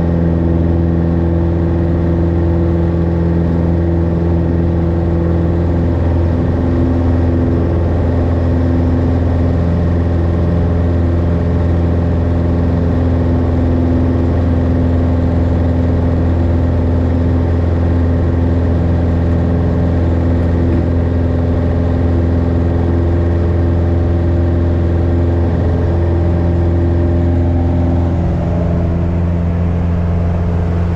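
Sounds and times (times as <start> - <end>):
light aircraft engine droning: 0.0 - 30.9.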